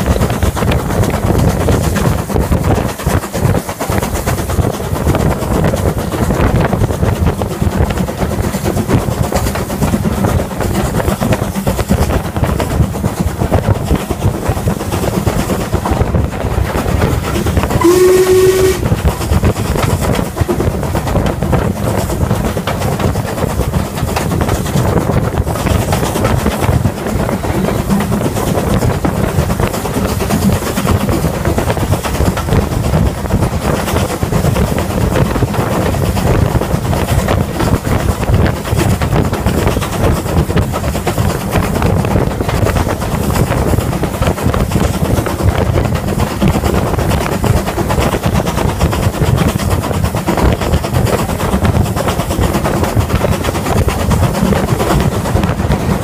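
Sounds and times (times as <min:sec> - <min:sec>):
steam train running on rails: 0:00.0 - 0:56.0
wind on microphone: 0:00.0 - 0:56.0.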